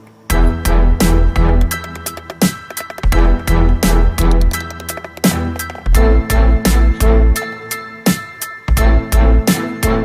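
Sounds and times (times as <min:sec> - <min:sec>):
music with heavy bass beat: 0:00.3 - 0:10.0.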